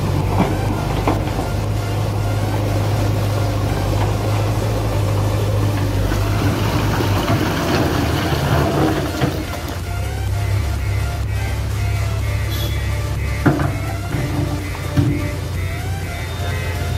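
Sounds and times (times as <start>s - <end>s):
diesel engine running under load: 0.0s - 16.9s.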